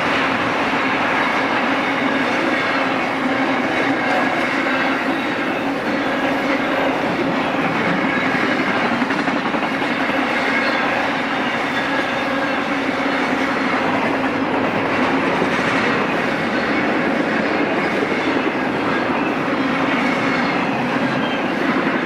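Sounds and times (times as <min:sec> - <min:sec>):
clickety-clack over rails: 0:00.0 - 0:22.0
freight train wheels rumbling: 0:00.0 - 0:22.0.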